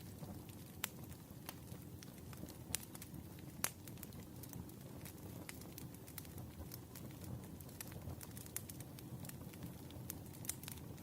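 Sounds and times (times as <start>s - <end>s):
low rumble of burning: 0.0s - 11.0s
wood fire crackling: 0.0s - 11.0s
sharp pops and snaps: 0.1s - 11.0s.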